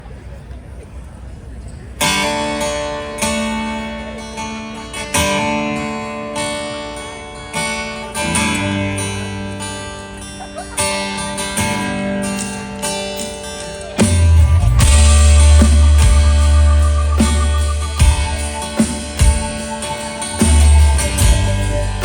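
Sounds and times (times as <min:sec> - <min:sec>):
acoustic guitar chords strummed: 0:02.0 - 0:22.0.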